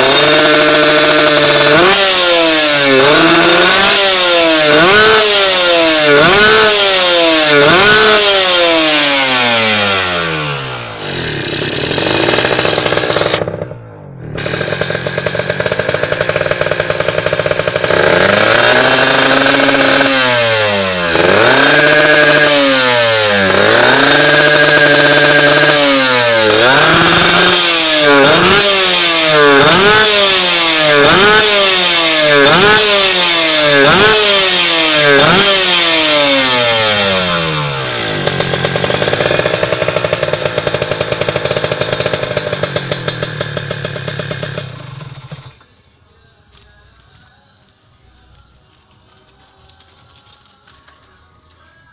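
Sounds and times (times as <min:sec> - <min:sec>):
motorcycle engine revving: 0:00.0 - 0:45.8.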